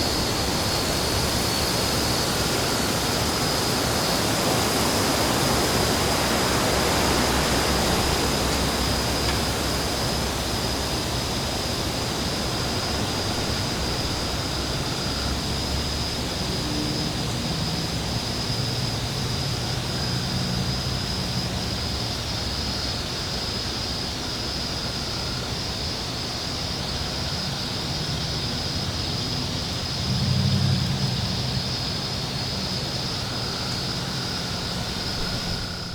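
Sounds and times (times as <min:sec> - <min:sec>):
wind blowing with rumbling gusts: 0:00.0 - 0:35.9.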